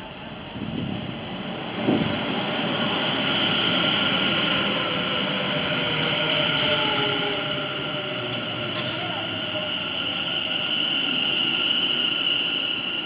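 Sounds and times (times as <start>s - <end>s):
train rolling past: 0.0s - 13.0s.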